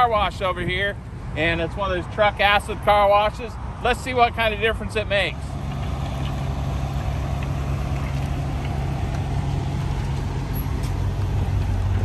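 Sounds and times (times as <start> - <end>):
truck engine running low: 0.0 - 12.0.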